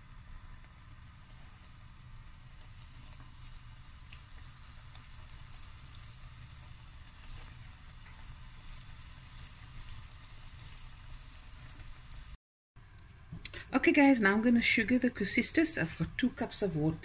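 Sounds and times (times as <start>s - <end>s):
dough deep-frying in oil: 0.0s - 17.0s.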